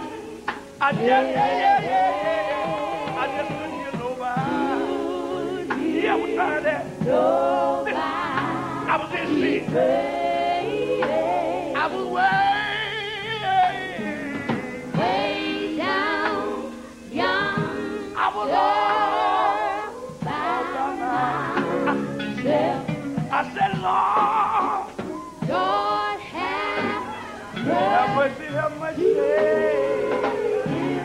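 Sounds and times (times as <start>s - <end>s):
gospel group singing: 0.0s - 31.0s.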